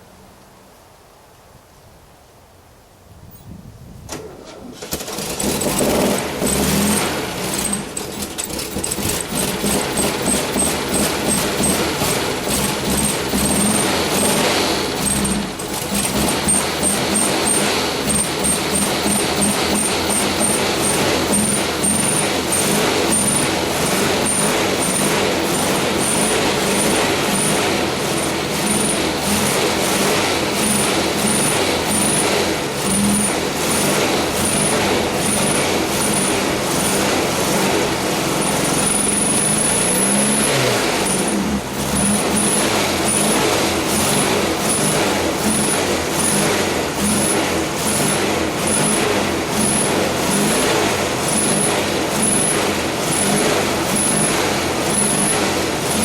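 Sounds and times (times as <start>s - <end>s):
car engine running: 4.6s - 56.0s.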